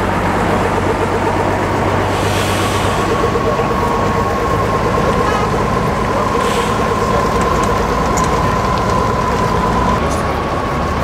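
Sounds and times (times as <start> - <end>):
high whine: 0.0 - 10.6
tractor diesel engine running: 0.0 - 11.0.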